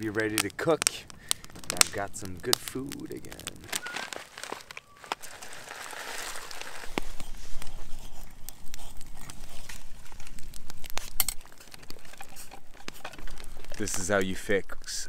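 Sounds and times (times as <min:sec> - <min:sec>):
food packet rustling: 0:00.0 - 0:14.4
campfire crackling and popping: 0:00.0 - 0:15.0.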